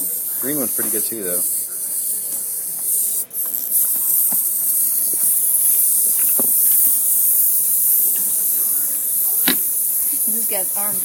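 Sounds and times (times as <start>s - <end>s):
toys clicking and tapping: 0.0s - 11.0s
wind-up toys buzzing: 0.0s - 11.0s.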